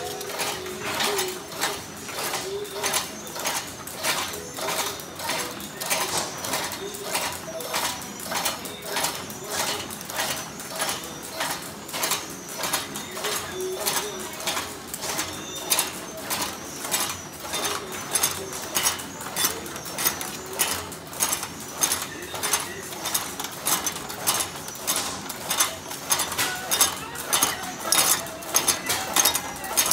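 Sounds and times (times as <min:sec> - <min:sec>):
packaging machine rhythmic clatter: 0:00.0 - 0:29.9.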